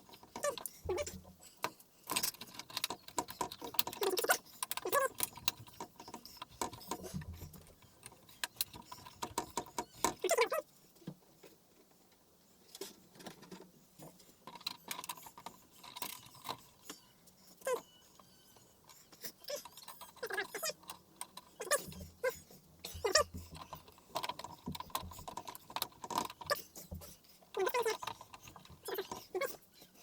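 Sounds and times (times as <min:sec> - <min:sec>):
plastic and metal parts clicking: 0:00.0 - 0:11.1, 0:12.7 - 0:17.0, 0:17.6 - 0:30.0.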